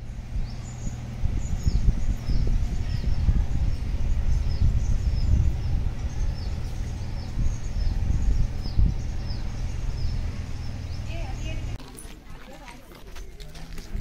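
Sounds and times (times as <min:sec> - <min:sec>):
small birds chirping: 0:00.0 - 0:11.8
steady low rumble: 0:00.0 - 0:11.8.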